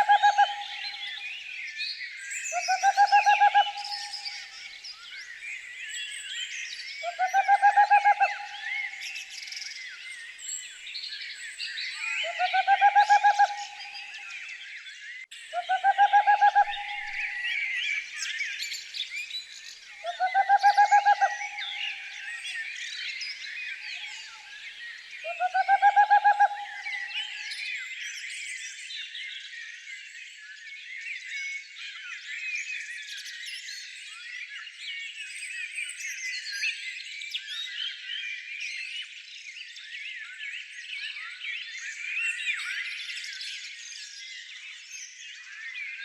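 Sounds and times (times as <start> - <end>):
songbirds singing: 0.0 - 46.0.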